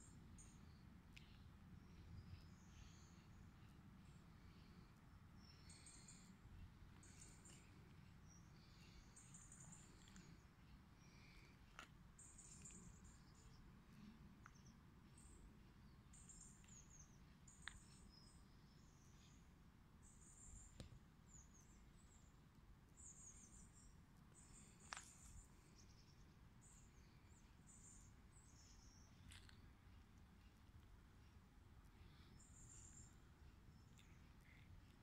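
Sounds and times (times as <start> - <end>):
low background hum: 0.0 - 35.0
small birds chirping: 0.0 - 35.0.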